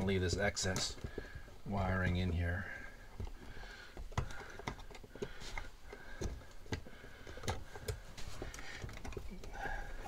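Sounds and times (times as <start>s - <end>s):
wire clicking in plastic wall box: 0.0s - 10.0s.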